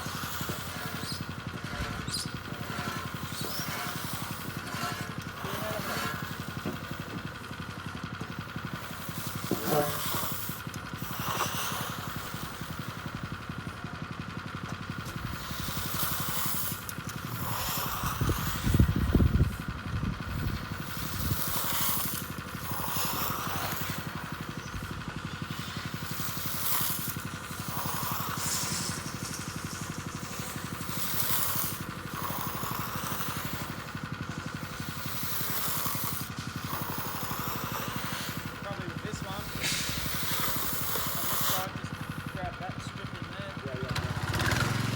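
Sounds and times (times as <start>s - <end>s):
power trowel engine running: 0.0s - 44.9s.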